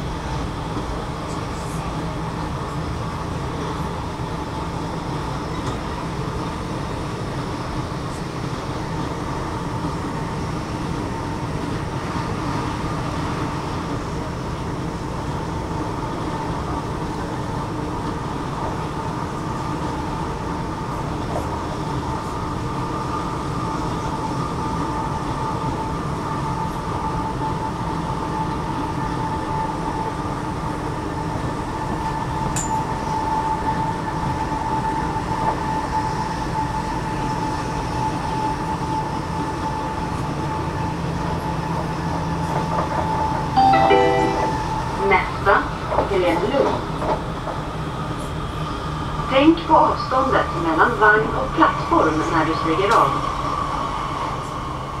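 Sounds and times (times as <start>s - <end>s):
train wheels rumbling on rail: 0.0s - 43.6s, 45.0s - 55.0s
train whine: 0.0s - 55.0s.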